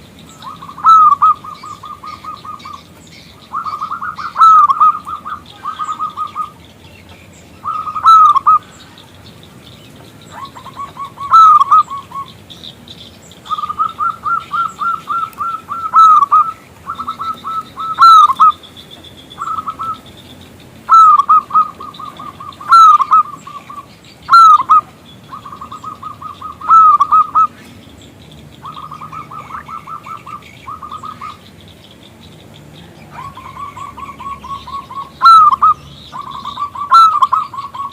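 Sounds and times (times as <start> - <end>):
dove cooing: 0.0 - 6.7, 7.6 - 12.6, 13.4 - 20.2, 20.8 - 27.8, 28.6 - 31.5, 32.8 - 37.9
small birds chirping: 0.0 - 37.9.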